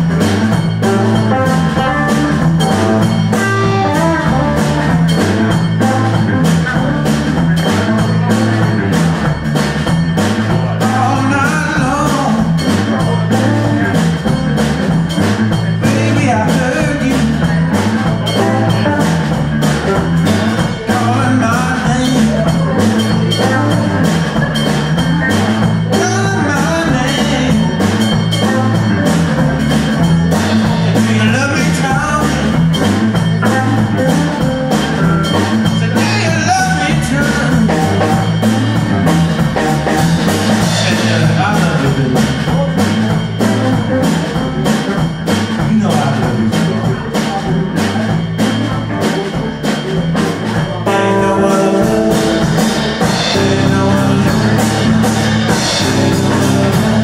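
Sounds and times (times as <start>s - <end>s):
bass line: 0.0s - 57.0s
bending melodic line: 0.0s - 57.0s
drum kit beat: 0.0s - 57.0s
electric guitar: 0.0s - 57.0s.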